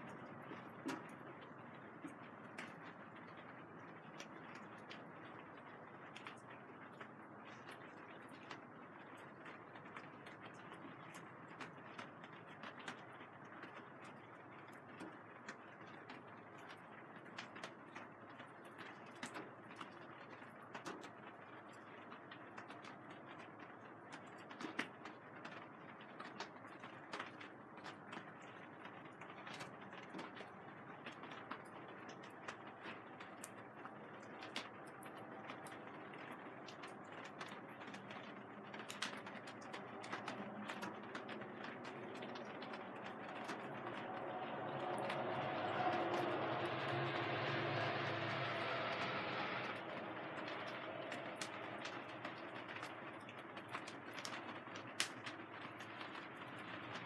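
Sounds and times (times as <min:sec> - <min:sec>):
rain hissing on plastic sheeting: 0:00.0 - 0:57.0
raindrops tapping on plastic film: 0:00.0 - 0:57.0.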